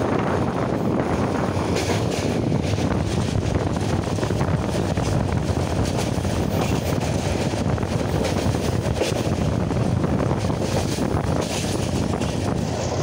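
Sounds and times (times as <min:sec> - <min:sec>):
train low rumble: 0:00.0 - 0:13.0
wind buffeting microphone: 0:00.0 - 0:13.0.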